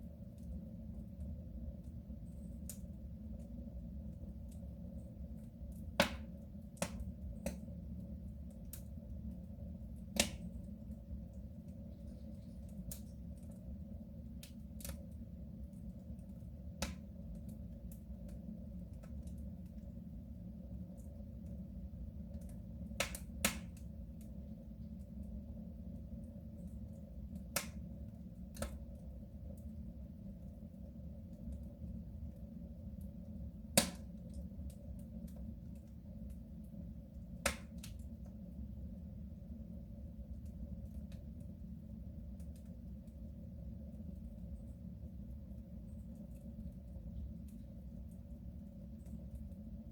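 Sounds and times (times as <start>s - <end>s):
low rumble of flames: 0.0s - 49.9s
wood fire crackling in a stove: 0.0s - 49.9s.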